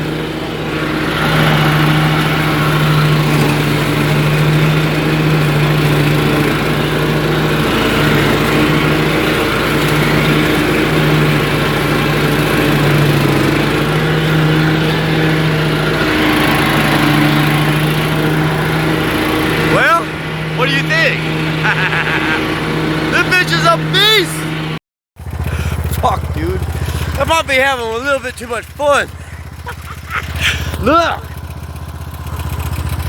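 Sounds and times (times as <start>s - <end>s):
lawnmower engine running: 0.0s - 33.0s.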